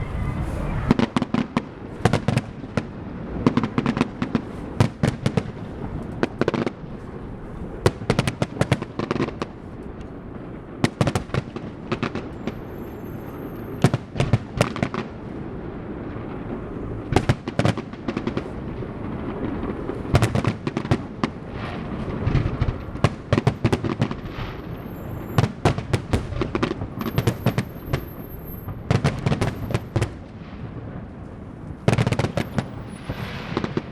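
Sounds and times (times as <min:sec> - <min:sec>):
fireworks bangs and pops: 0:00.8 - 0:07.2, 0:07.8 - 0:33.9.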